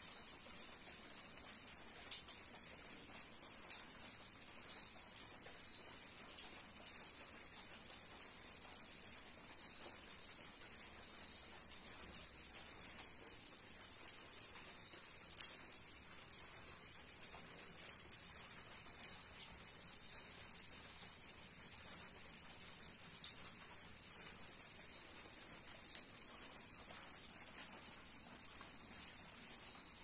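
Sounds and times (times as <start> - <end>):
raindrops ticking: 0.0 - 30.0.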